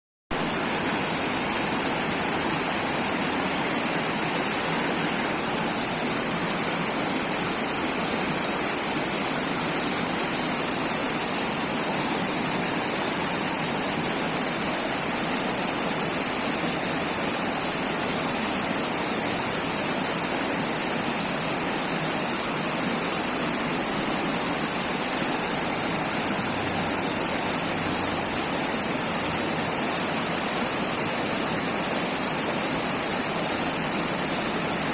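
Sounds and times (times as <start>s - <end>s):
river water rushing: 0.3s - 34.9s.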